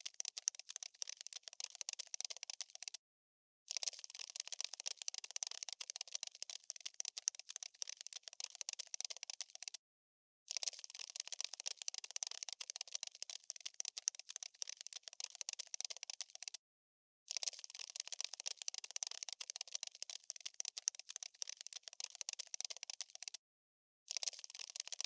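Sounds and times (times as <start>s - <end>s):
cockroach scuttling clicks and scrapes: 0.0s - 3.0s, 3.7s - 9.8s, 10.5s - 16.6s, 17.3s - 23.4s, 24.1s - 25.0s.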